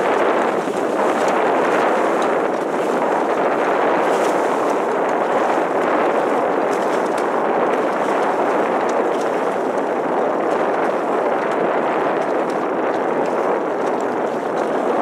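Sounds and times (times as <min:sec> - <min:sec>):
boat motor: 0:00.0 - 0:15.0
water rushing: 0:00.0 - 0:15.0
wind on microphone: 0:00.0 - 0:15.0.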